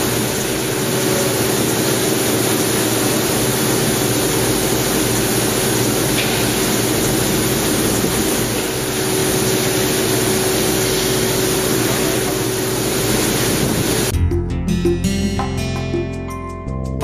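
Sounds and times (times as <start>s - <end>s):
milling machine spindle hiss: 0.0s - 14.1s
steady machine whine: 0.0s - 16.2s.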